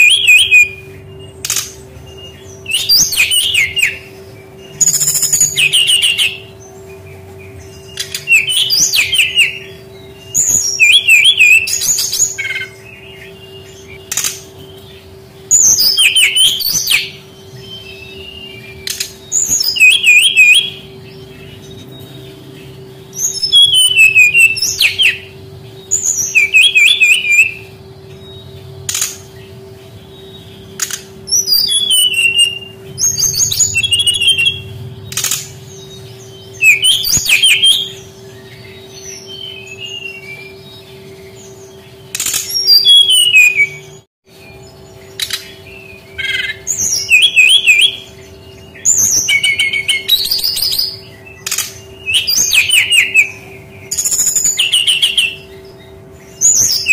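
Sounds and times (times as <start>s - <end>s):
bird warbling song: 0.0s - 56.9s
steady low hum: 0.0s - 56.9s.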